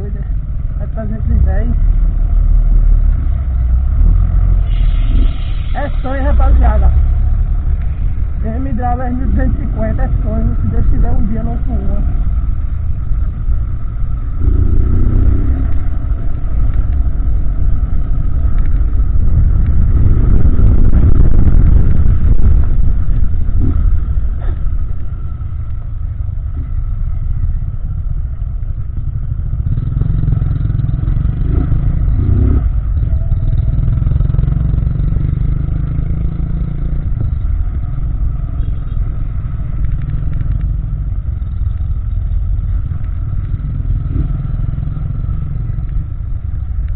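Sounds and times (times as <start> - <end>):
motorcycle engine shifting gears: 7.0 - 46.9.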